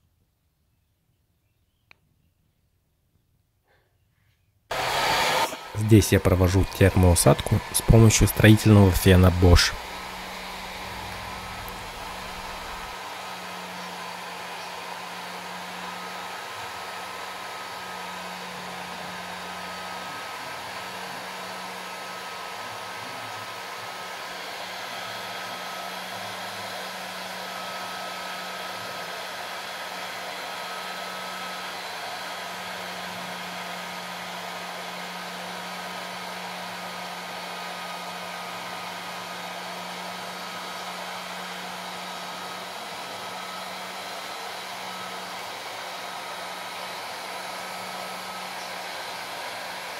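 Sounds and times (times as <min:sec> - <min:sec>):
heat gun blowing air: 0:04.7 - 0:49.9.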